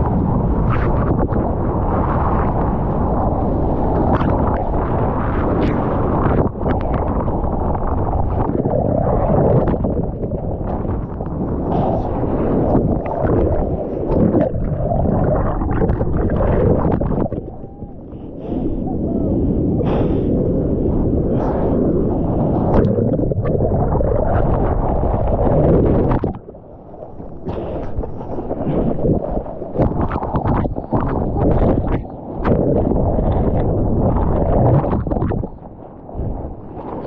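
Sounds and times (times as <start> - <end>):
muffled rushing surf water: 0.0 - 37.0
water gurgling on microphone: 0.0 - 37.0.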